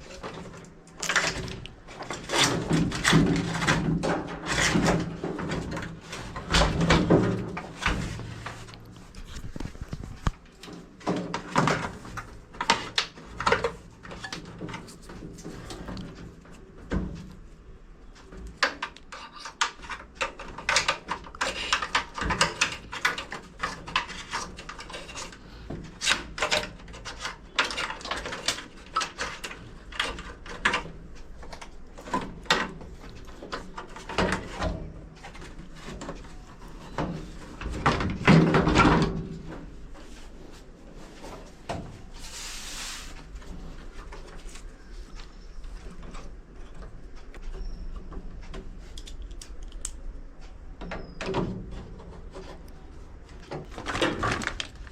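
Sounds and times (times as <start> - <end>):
plastic parts clicking and knocking: 0.0 - 17.4, 18.2 - 39.8, 45.7 - 54.9.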